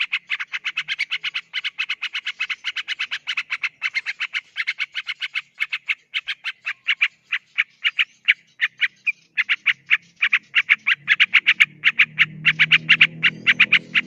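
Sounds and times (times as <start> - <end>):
bulbul chattering song: 0.0 - 14.0.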